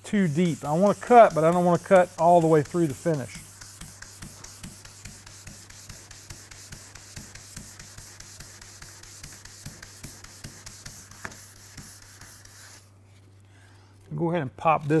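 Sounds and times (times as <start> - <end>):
wet sandpaper rubbing on paint: 0.1 - 12.9.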